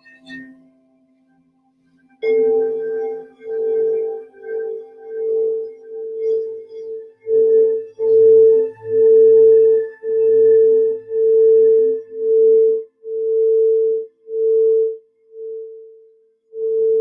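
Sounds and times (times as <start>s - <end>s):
singing bowl ringing: 1.9s - 17.0s.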